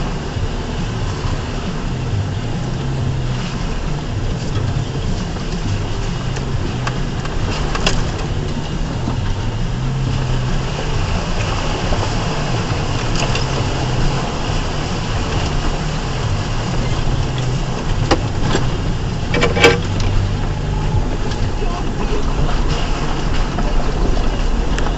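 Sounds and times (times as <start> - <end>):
sharp clatter: 0.0 - 24.9
truck engine at low revs: 0.0 - 24.9.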